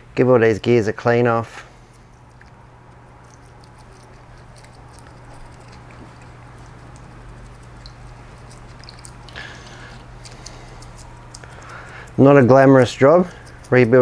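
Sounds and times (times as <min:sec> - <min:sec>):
low hum: 0:00.0 - 0:14.0
soft liquid patter: 0:02.2 - 0:14.0.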